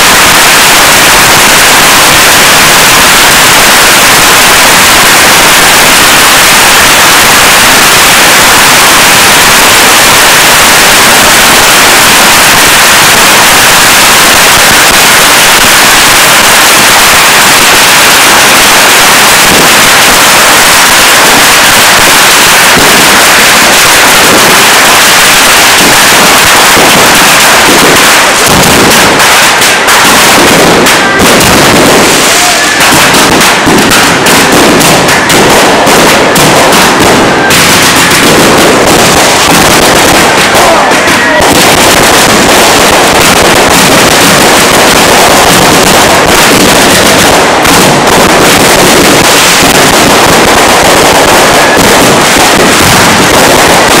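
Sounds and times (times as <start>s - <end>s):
firecrackers bangs and crackling: 0.0s - 54.0s.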